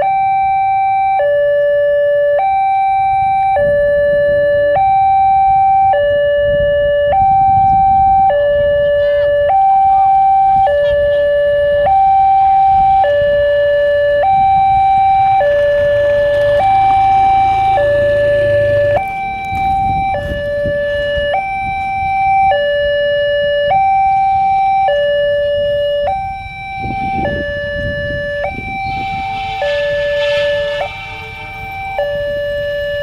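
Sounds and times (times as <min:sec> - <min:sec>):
two-tone hi-lo siren: 0:00.0 - 0:33.0.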